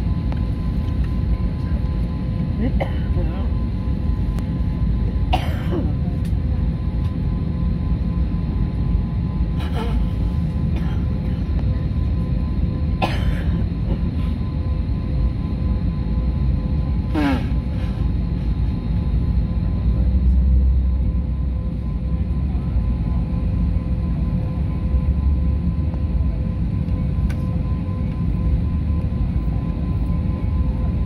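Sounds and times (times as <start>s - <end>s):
airliner cabin rumble: 0.0s - 31.0s
constant hum: 0.0s - 31.0s.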